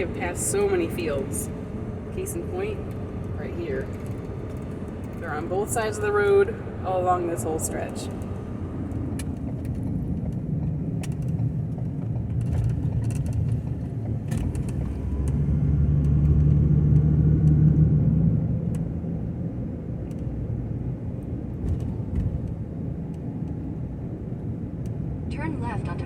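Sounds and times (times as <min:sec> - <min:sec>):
van engine and tyres rumbling: 0:00.0 - 0:26.0.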